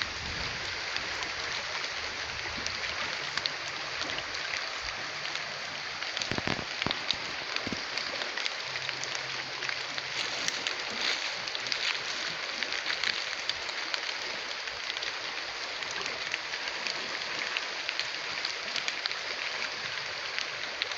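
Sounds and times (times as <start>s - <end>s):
steady rain falling: 0.0s - 20.9s.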